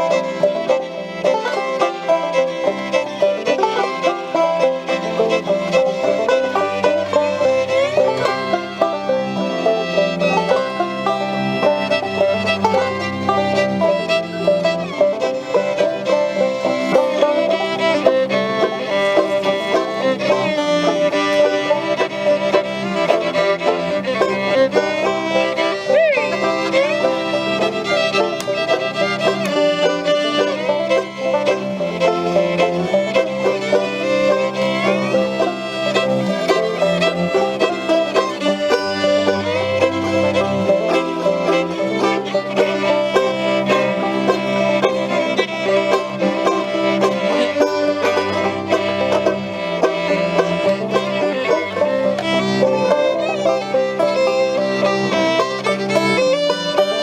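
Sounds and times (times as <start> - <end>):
banjo: 0.0 - 57.0
fiddle: 0.0 - 57.0.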